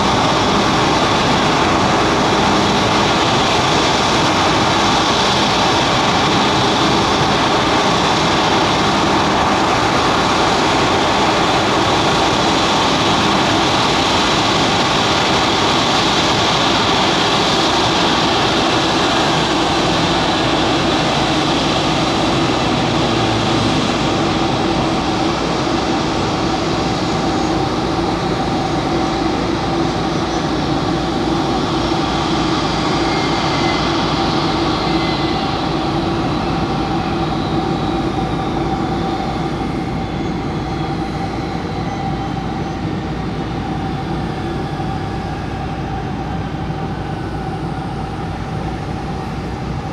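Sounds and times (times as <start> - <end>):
propeller engines droning: 0.0 - 49.9.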